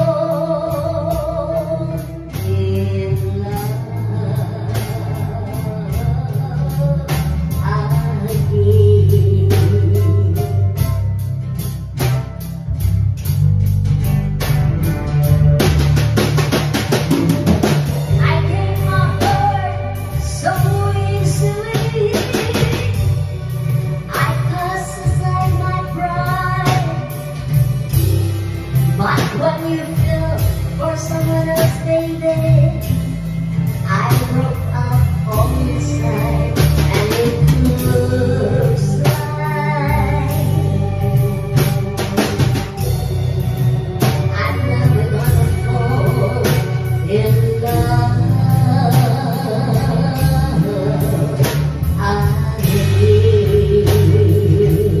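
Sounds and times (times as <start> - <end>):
woman singing karaoke: 0.0 - 11.7, 17.2 - 55.0
amplified backing music: 0.0 - 55.0
drum kit accompaniment: 0.0 - 55.0.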